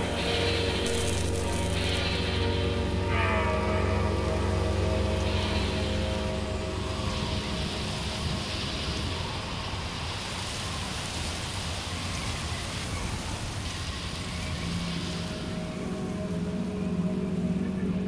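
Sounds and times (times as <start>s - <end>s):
rain-like rushing noise: 0.0s - 18.0s.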